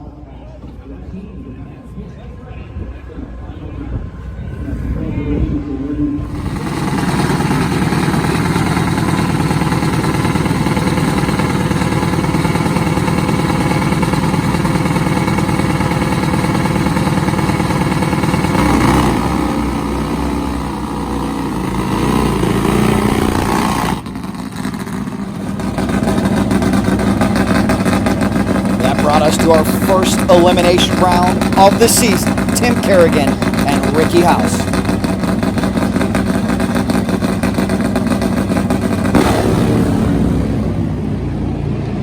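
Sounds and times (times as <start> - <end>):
drag bike engine running loud: 3.1 - 42.0.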